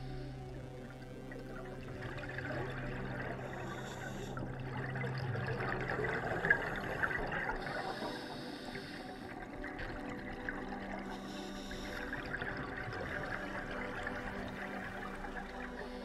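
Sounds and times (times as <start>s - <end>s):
low steady hum: 0.0s - 16.0s
underwater bubbling water: 0.0s - 16.0s.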